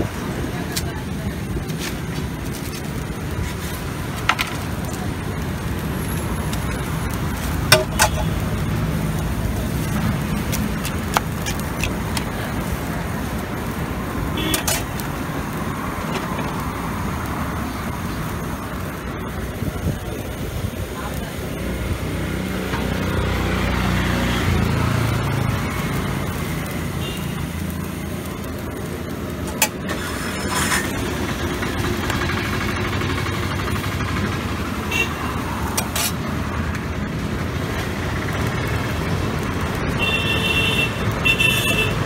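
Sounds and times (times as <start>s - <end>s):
engine rumbling low: 0.0s - 42.0s
street traffic noise: 0.0s - 42.0s.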